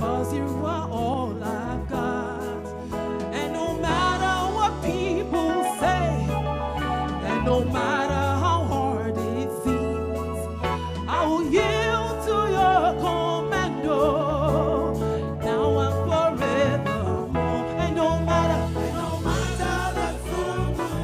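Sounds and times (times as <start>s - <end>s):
instrumental accompaniment: 0.0s - 21.0s.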